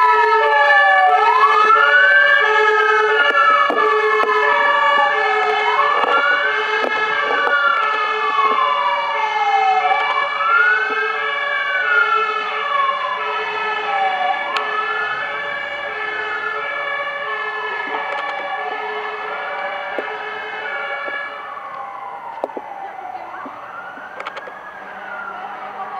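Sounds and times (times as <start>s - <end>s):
fire engine sirens wailing: 0.0s - 25.9s
high steady siren tones: 0.0s - 25.9s.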